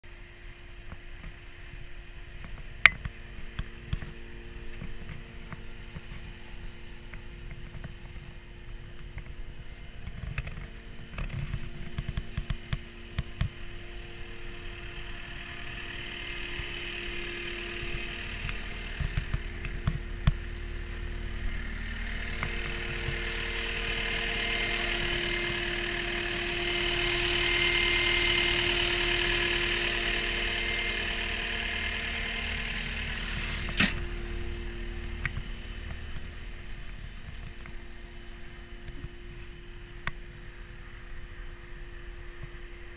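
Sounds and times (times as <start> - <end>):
diesel engine idling: 0.1 - 42.9.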